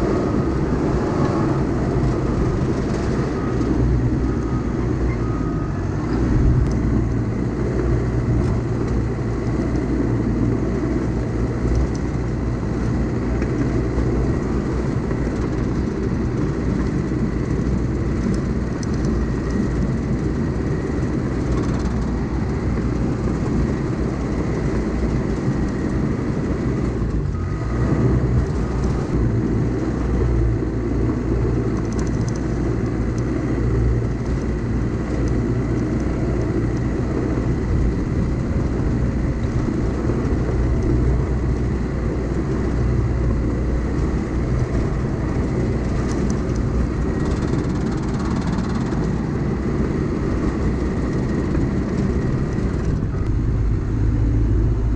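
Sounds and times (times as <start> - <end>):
heavy diesel engine working: 0.0 - 54.9.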